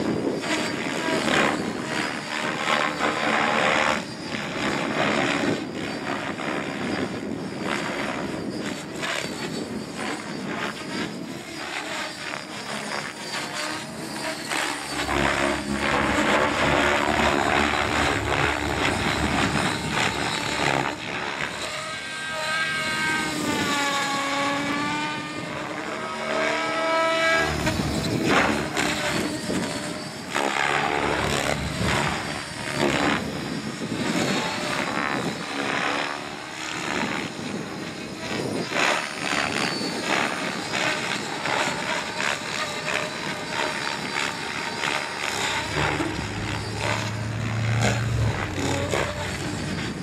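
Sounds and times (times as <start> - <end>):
electric motor whine: 0.0 - 50.0
helicopter rotor blades whooshing: 0.0 - 50.0.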